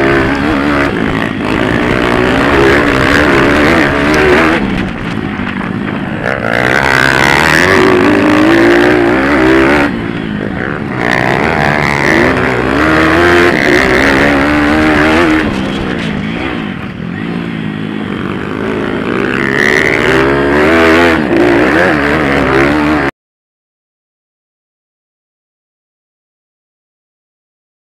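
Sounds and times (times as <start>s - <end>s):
pit bike engines revving: 0.0s - 23.1s.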